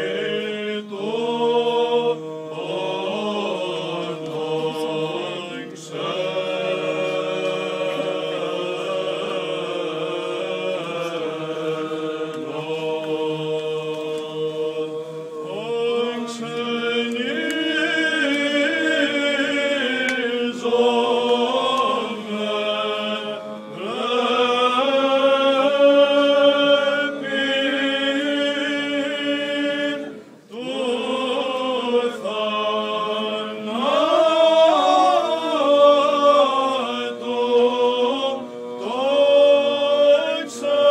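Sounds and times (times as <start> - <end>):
men chanting: 0.0 - 40.9.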